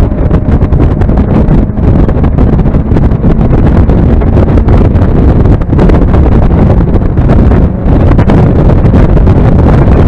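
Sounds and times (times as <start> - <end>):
car engine and road noise: 0.0 - 10.0
wind buffeting on microphone: 0.0 - 10.0.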